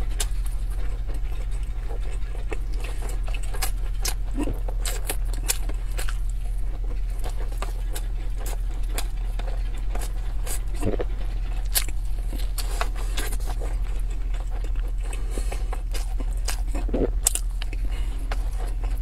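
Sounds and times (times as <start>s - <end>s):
steady low hum: 0.0s - 19.0s
wet chewing: 0.0s - 19.0s.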